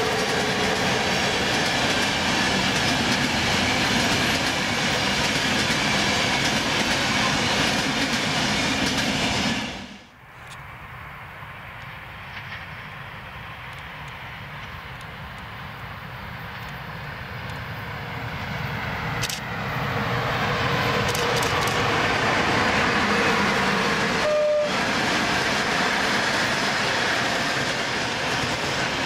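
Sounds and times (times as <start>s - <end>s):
train wheels rumbling on rails: 0.0s - 10.1s, 11.4s - 29.0s.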